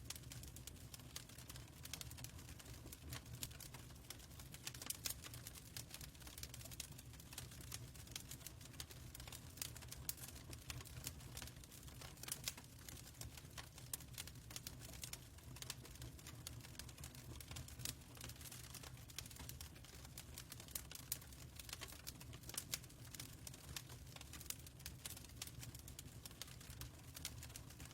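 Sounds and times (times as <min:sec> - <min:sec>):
fireplace crackling: 0:00.1 - 0:27.9.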